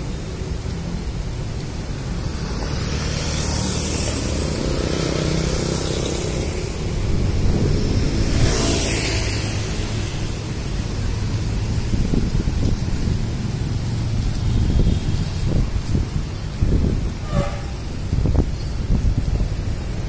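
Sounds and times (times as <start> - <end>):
low rumble of street noise: 0.0 - 20.0
small motorbike passing: 2.0 - 20.0.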